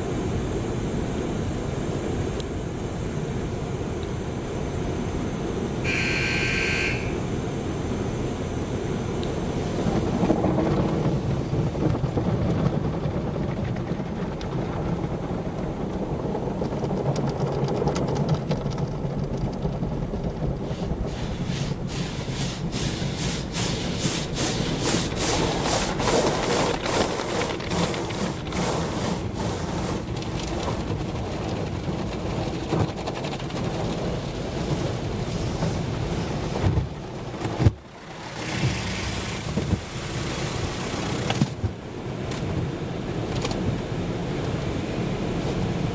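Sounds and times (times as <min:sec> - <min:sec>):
car wash water spray and machinery: 0:00.0 - 0:45.9.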